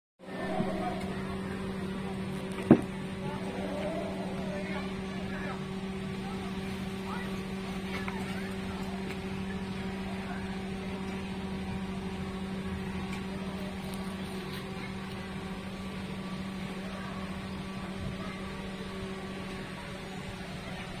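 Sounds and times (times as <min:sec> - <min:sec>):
steady mechanical hum: 0:00.2 - 0:21.0.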